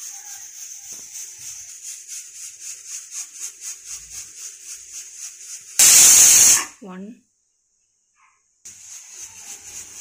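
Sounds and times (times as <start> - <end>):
pressure cooker hissing steam: 0.0 - 6.8, 8.7 - 10.0.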